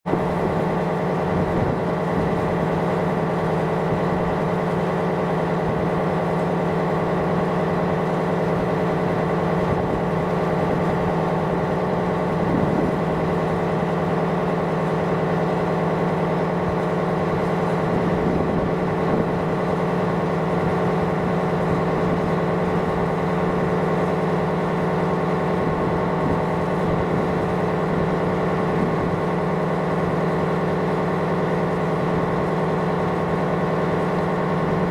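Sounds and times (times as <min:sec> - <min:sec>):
ship engine drone: 0:00.1 - 0:34.9.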